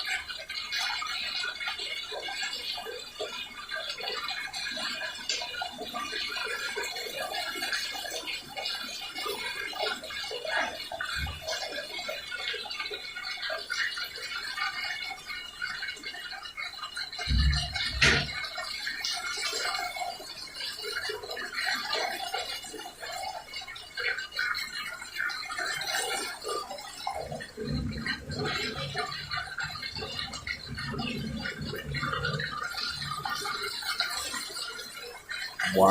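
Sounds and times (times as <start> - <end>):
toilet flushing: 0.0 - 35.9.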